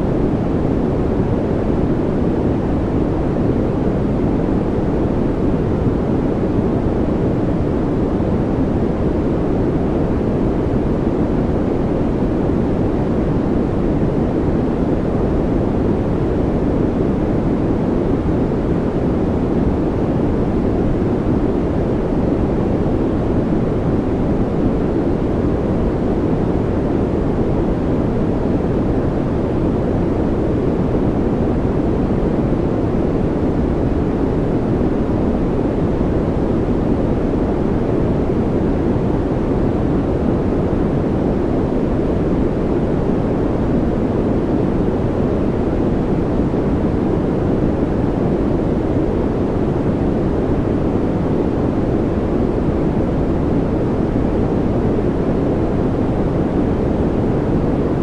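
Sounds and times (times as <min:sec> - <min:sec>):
deep white noise hiss: 0:00.0 - 0:58.0.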